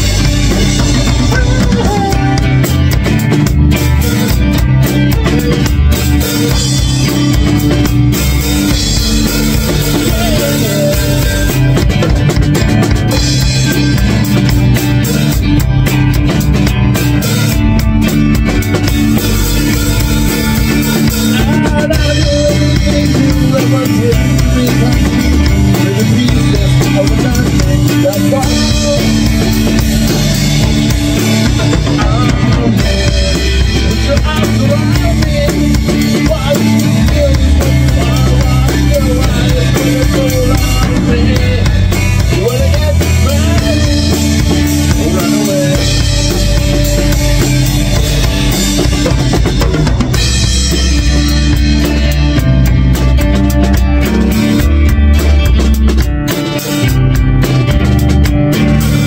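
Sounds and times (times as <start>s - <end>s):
drum kit beat: 0.0s - 59.0s
rock band playing: 0.0s - 59.0s.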